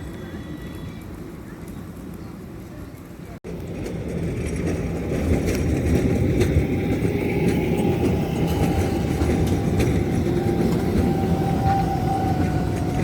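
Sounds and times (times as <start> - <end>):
tram rumbling past: 0.0 - 13.0.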